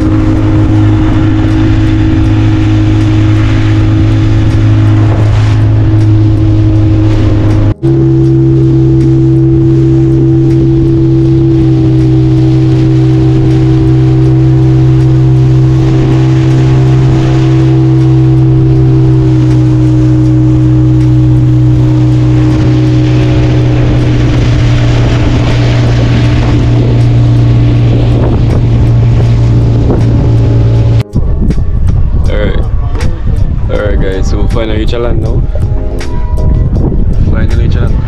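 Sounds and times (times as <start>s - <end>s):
outboard motor running: 0.0s - 34.5s.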